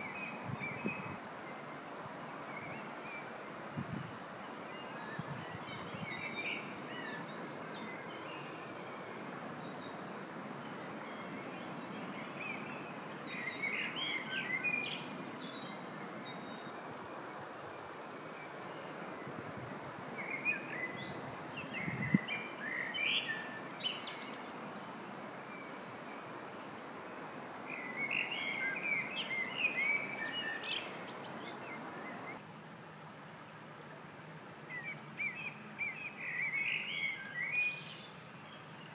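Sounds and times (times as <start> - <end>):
songbirds chirping: 0.0 - 38.9
stream running over stones: 0.0 - 38.9.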